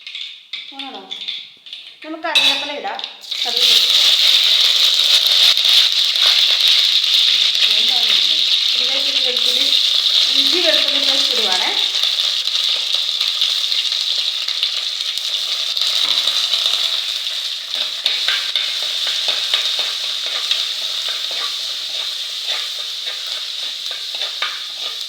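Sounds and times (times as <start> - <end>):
paste sizzling in hot oil: 0.0 - 25.0
spoon scraping against pan: 0.0 - 25.0.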